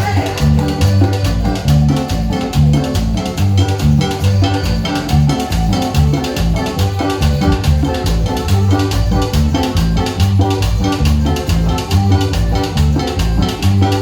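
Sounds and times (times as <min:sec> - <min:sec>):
song with guitar and bass: 0:00.0 - 0:14.0.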